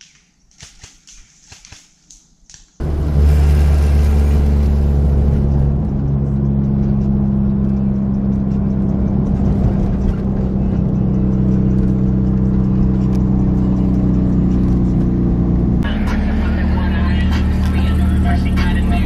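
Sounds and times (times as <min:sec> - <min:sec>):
car engine and road noise: 0:02.8 - 0:19.0
low drone: 0:02.8 - 0:19.0.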